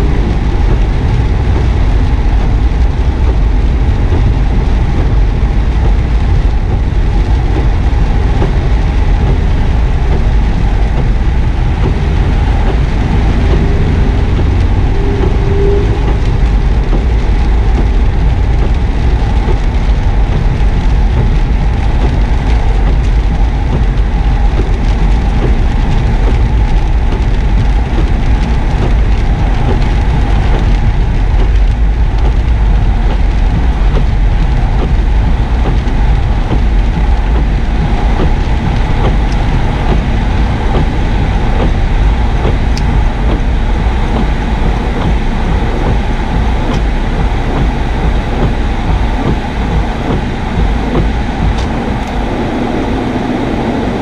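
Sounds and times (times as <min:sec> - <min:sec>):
car engine at low revs: 0:00.0 - 0:54.0.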